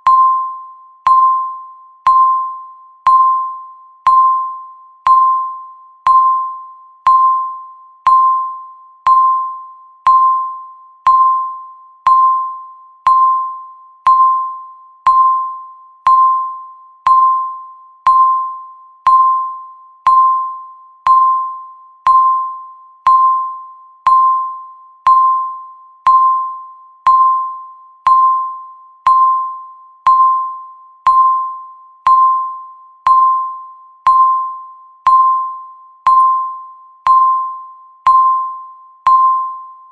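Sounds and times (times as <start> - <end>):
countdown timer beep: 0.0 - 39.9.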